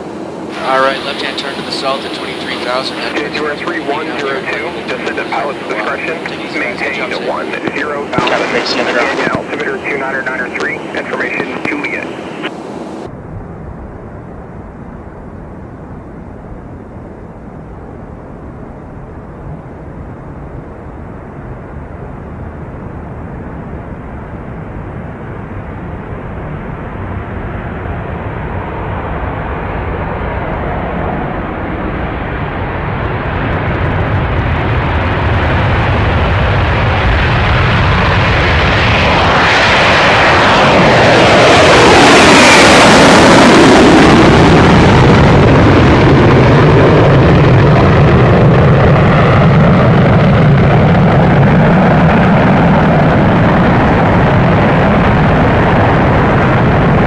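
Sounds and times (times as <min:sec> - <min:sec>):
jet engines approaching: 0:00.0 - 0:57.0.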